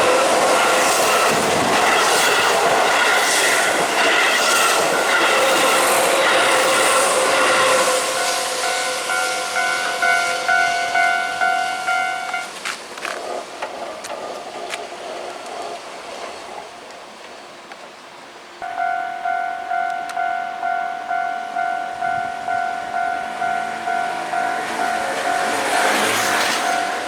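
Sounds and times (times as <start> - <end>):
level crossing warning bell: 0.0 - 13.4, 18.6 - 27.0
train wheels on rails: 0.0 - 27.0.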